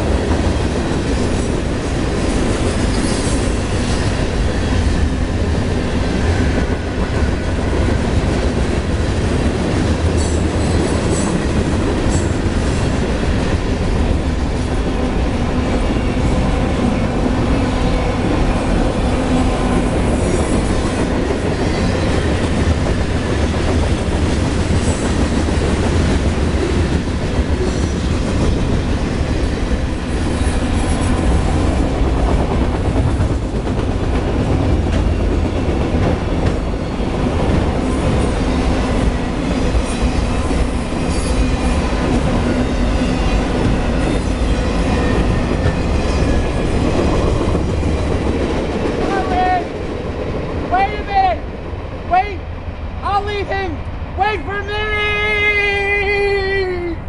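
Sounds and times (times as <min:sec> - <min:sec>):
train cars rumbling past: 0:00.0 - 0:56.0.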